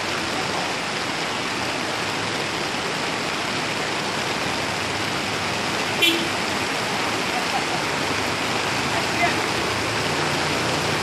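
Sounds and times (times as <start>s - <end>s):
rain and floodwater rushing: 0.0s - 11.0s.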